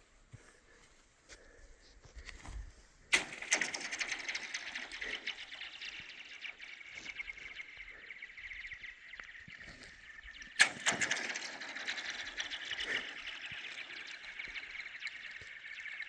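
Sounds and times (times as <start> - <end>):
ice ticking and chirping: 3.1 - 16.0.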